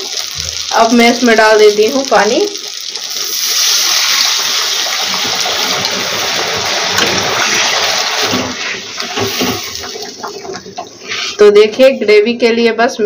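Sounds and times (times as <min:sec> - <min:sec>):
water pouring into hot oil: 0:00.0 - 0:11.4.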